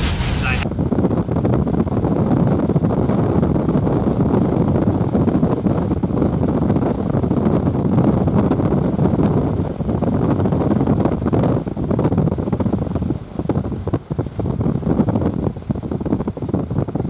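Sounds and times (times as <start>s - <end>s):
strong wind rumble: 0.0s - 17.0s.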